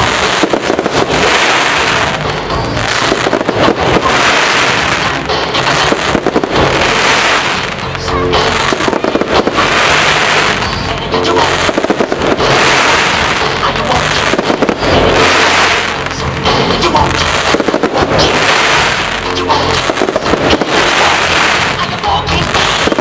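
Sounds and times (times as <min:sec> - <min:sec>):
fireworks crackling and popping: 0:00.0 - 0:23.0
music playing: 0:00.0 - 0:23.0.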